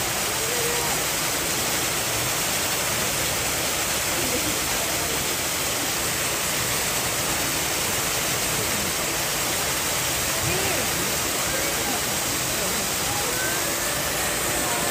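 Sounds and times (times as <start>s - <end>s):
water rushing: 0.0s - 14.9s.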